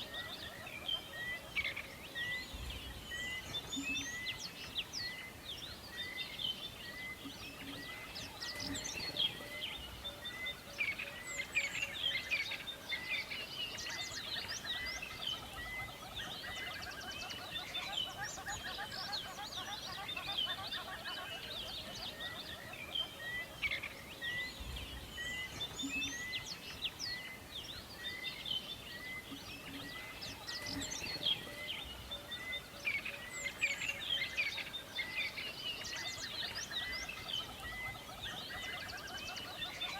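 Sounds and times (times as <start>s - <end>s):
background hiss: 0.0s - 20.5s, 21.4s - 39.9s
birds chirping and singing: 0.0s - 39.9s.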